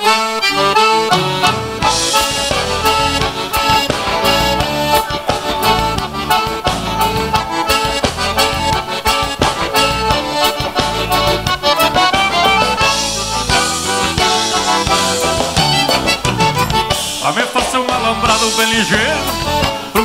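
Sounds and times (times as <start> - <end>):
accordions playing a tune: 0.0 - 20.0
drum kit steady beat: 0.0 - 20.0
electric bass: 0.0 - 20.0
electric guitar: 0.0 - 20.0.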